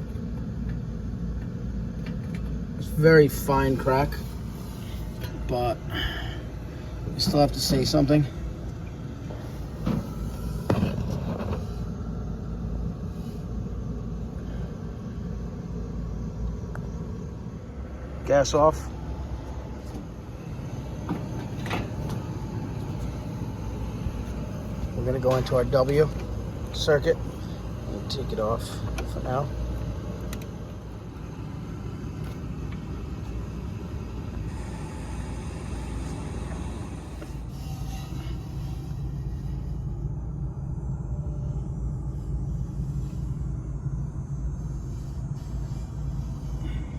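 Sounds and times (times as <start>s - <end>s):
steady low rumble: 0.0s - 46.9s.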